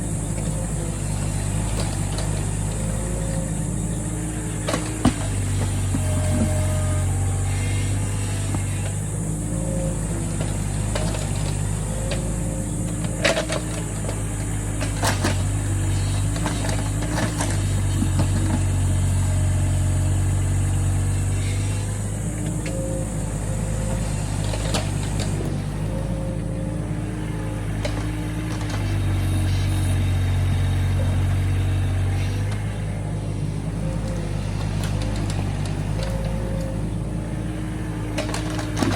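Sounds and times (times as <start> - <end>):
excavator bucket knocking: 0.0 - 29.8, 33.4 - 38.9
excavator diesel engine running: 0.0 - 38.9.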